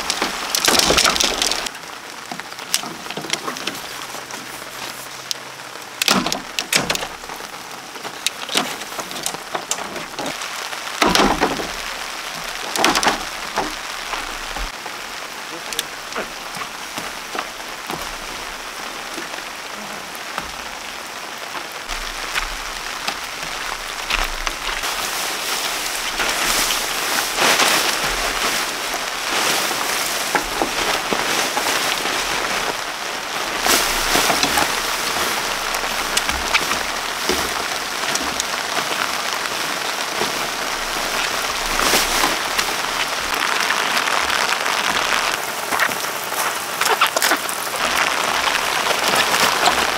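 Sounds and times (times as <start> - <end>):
rain pattering: 0.0 - 49.9.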